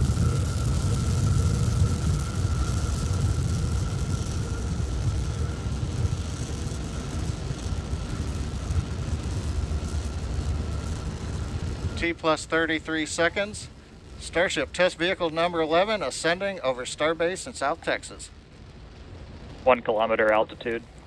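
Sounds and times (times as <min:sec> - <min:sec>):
rocket engines rumbling: 0:00.0 - 0:21.0.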